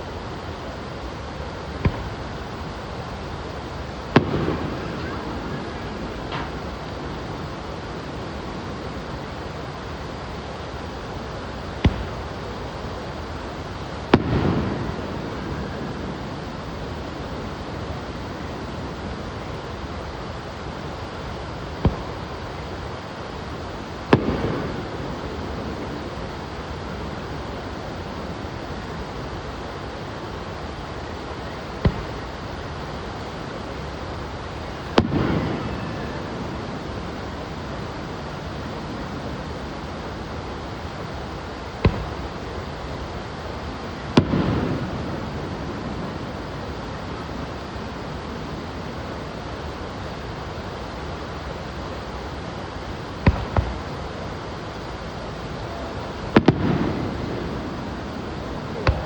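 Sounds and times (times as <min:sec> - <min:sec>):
fireworks bursting: 0:00.0 - 0:59.0
steady background noise: 0:00.0 - 0:59.0
steady rushing noise: 0:00.0 - 0:59.0.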